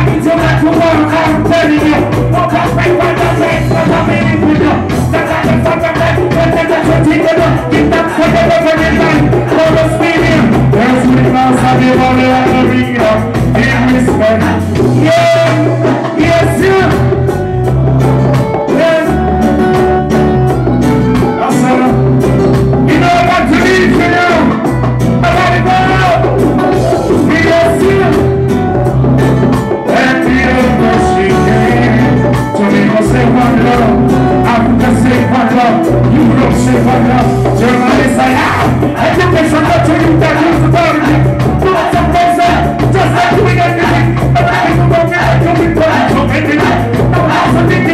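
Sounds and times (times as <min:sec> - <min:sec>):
person singing into a microphone: 0:00.0 - 0:47.9
reggae band playing: 0:00.0 - 0:47.9.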